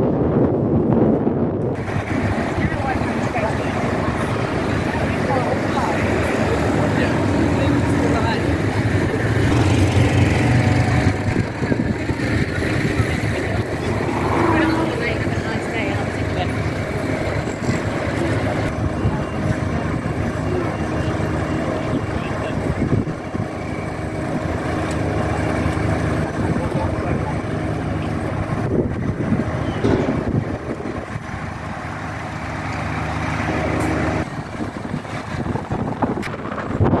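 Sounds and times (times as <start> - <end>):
diesel engine running: 0.0 - 37.0
voices: 1.8 - 36.8.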